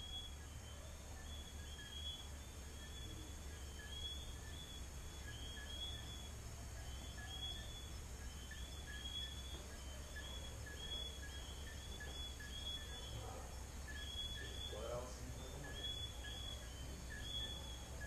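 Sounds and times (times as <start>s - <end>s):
crickets chirring: 0.0s - 18.0s
frogs whistling: 0.0s - 18.0s.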